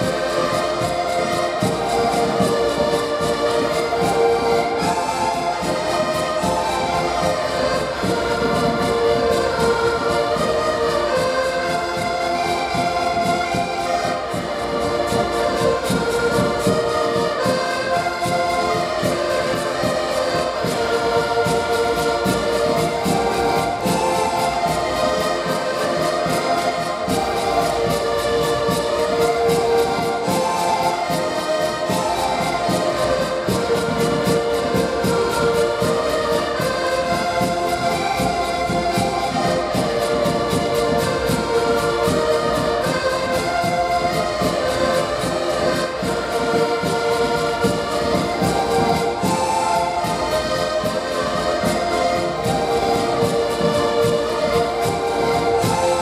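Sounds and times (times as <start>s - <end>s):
button accordions playing folk tune: 0.0s - 56.0s.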